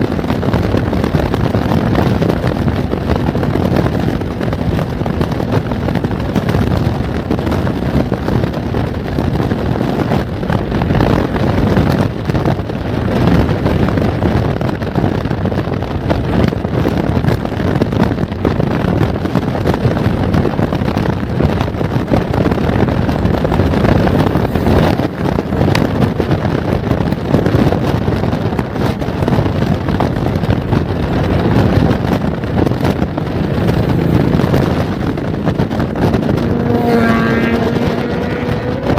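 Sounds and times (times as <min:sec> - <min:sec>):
motorcycle engine: 0:00.0 - 0:38.9
tyre noise on road: 0:00.0 - 0:38.9
wind rushing over microphone: 0:00.0 - 0:38.9.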